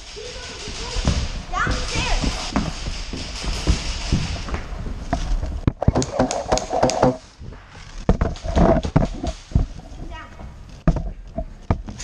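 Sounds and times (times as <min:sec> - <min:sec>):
sharp cracks and knocks: 0:00.0 - 0:09.8.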